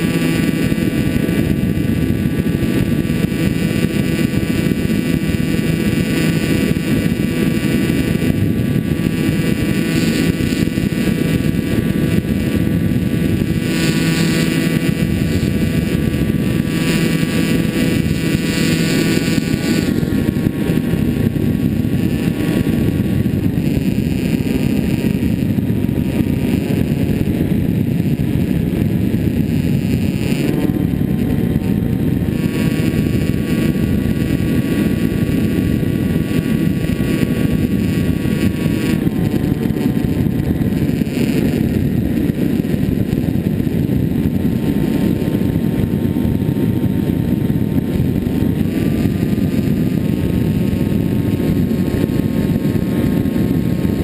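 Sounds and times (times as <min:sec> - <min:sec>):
electric motor and propeller: 0:00.0 - 0:54.0
wind rush over microphone: 0:00.0 - 0:54.0.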